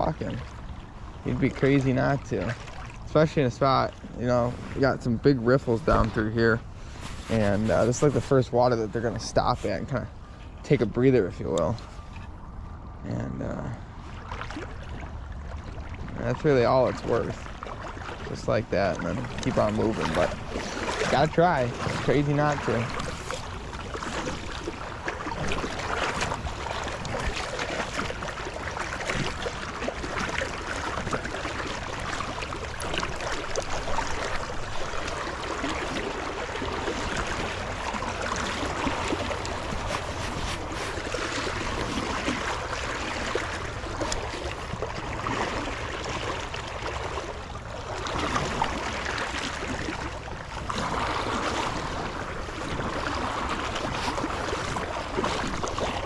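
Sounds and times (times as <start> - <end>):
creek water running over riffles: 0.0 - 12.2, 13.1 - 56.0.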